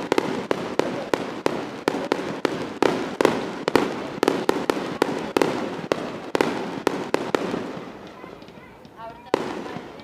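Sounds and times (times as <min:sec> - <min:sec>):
fireworks banging: 0:00.0 - 0:10.0
fireworks crackling: 0:00.0 - 0:10.0.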